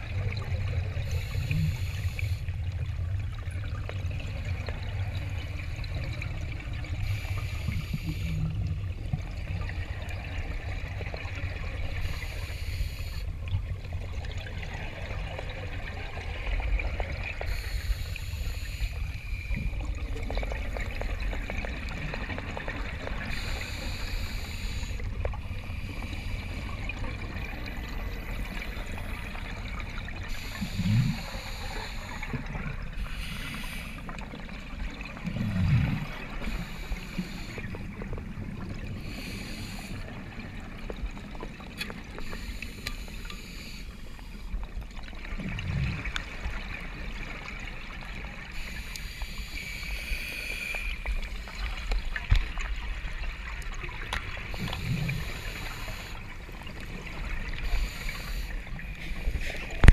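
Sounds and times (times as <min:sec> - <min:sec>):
underwater rumble and hiss: 0:00.0 - 0:59.9
water swishes: 0:00.0 - 0:59.9.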